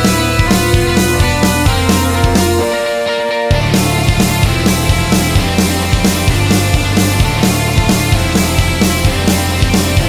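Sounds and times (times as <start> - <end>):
rock music with driving drums: 0.0 - 10.0.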